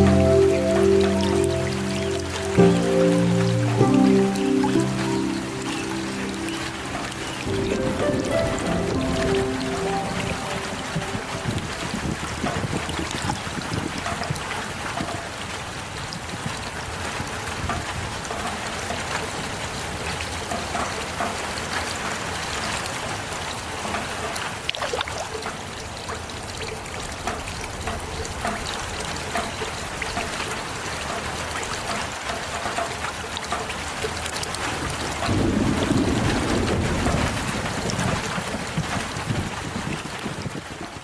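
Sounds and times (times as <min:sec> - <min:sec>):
heavy rain: 0:00.0 - 0:24.7, 0:25.6 - 0:41.0
trickling water: 0:00.0 - 0:41.0.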